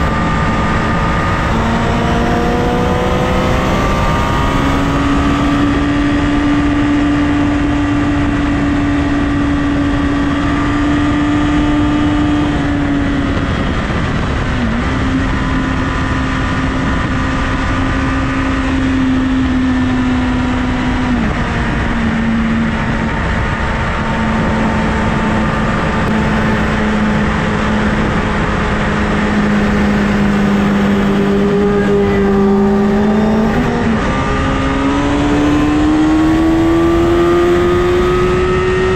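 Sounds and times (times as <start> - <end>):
motorcycle engine at high revs: 0.0 - 38.9
wind noise: 0.0 - 38.9.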